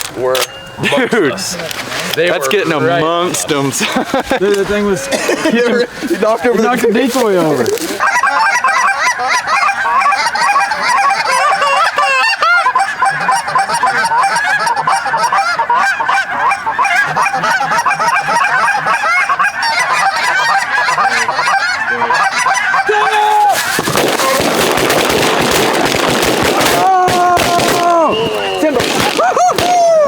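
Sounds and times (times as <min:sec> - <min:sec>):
geese honking: 0:01.1 - 0:30.0.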